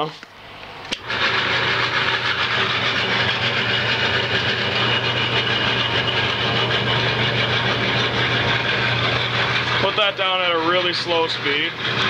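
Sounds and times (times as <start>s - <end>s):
lathe motor humming: 0.9s - 12.0s.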